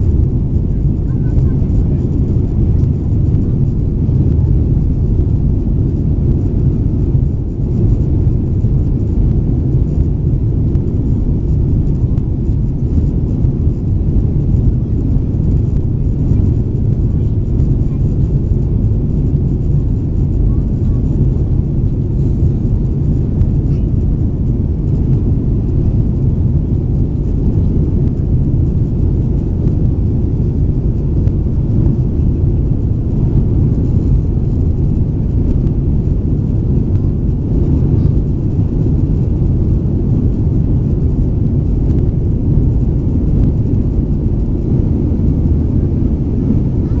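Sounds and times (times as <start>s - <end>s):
airplane cabin engine roar: 0.0s - 47.0s.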